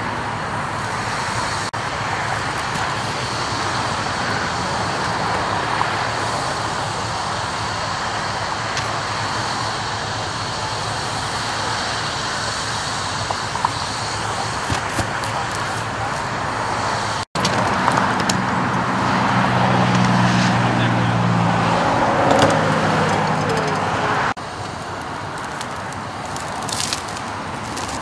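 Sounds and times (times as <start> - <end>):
freeway traffic noise: 0.0 - 28.0.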